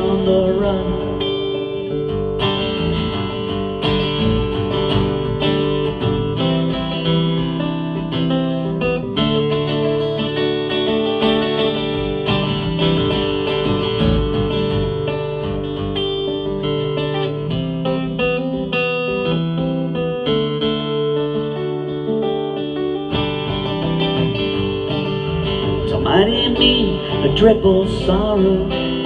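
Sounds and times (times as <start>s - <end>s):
guitar chords ringing: 0.0s - 29.0s.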